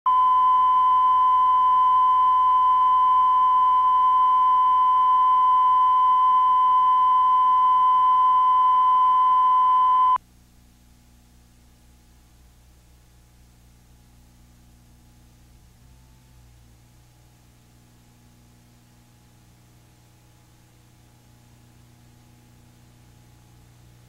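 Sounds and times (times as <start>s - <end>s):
faint hum: 0.1s - 24.0s.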